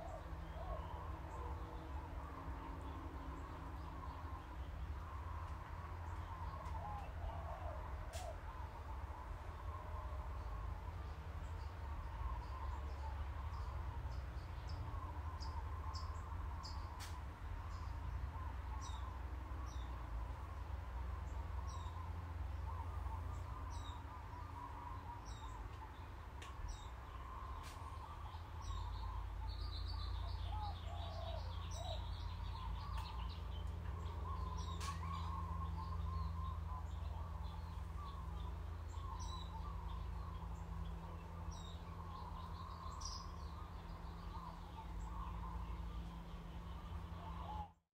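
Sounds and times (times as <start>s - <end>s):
birds chirping and warbling: 0.0s - 47.8s
steady low hum: 0.0s - 47.8s.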